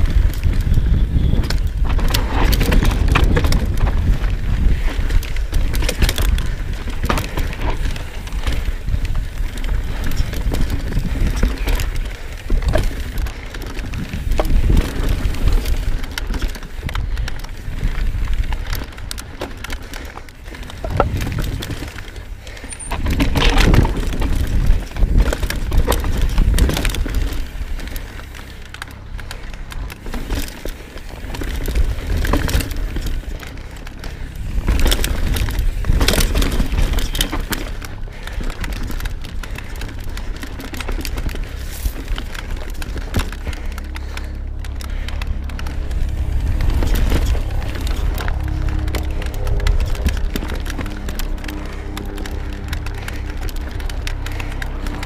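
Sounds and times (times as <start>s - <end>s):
bike rattling clicks and knocks: 0.0s - 55.0s
bike tyres crunching over rocks: 0.0s - 55.0s
steady low rumble: 0.0s - 55.0s.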